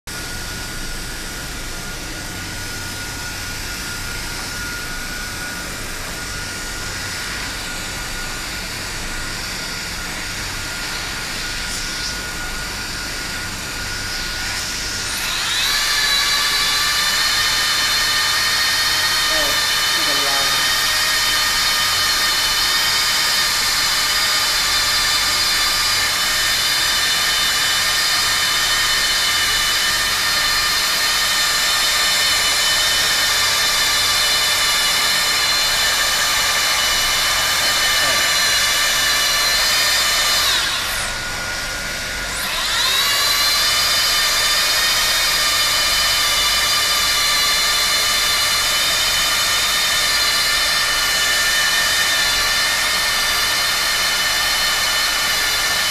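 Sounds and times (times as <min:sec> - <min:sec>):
plastic welder motor whine: 0:00.1 - 0:55.9.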